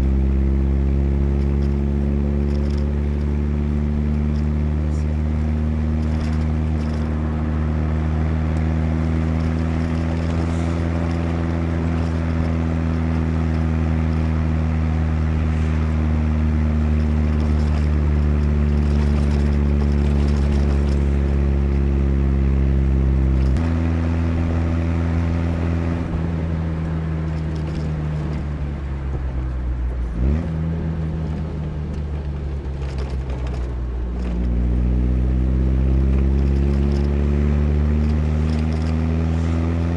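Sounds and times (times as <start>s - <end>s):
car engine pulling: 0.0s - 39.9s.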